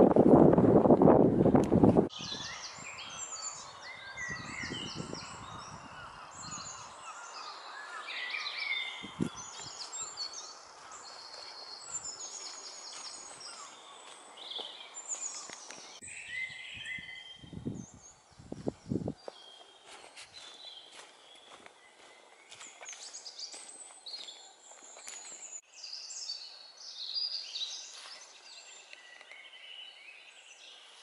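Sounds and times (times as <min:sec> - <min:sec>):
songbirds chirping and trilling: 0:02.1 - 0:31.0.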